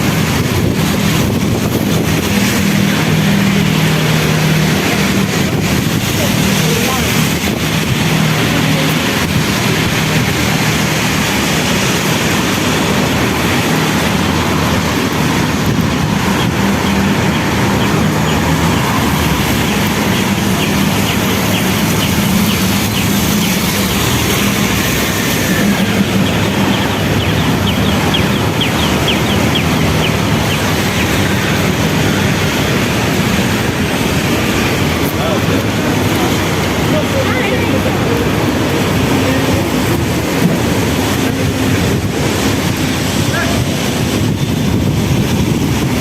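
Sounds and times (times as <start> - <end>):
moving vehicle noise: 0.0 - 46.0.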